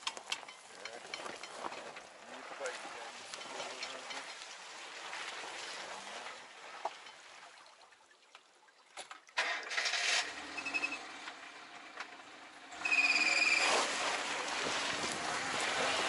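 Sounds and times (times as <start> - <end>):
tyre and road noise on dirt: 0.0 - 7.2, 9.4 - 16.0.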